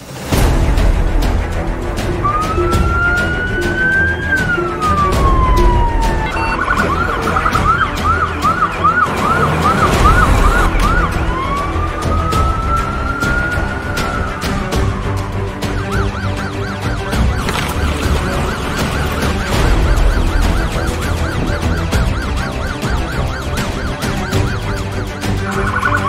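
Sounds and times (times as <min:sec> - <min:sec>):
ambulance siren wail and yelp: 0:02.2 - 0:26.0.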